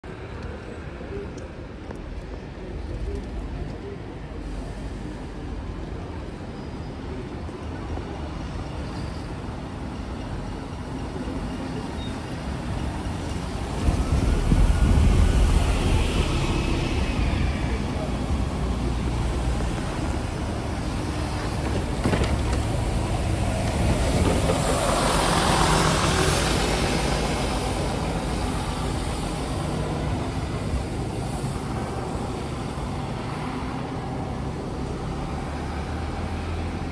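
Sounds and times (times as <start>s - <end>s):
bus passing with engine rumble: 0.0s - 36.9s
street traffic: 0.0s - 36.9s
bus diesel engine running: 0.2s - 36.9s.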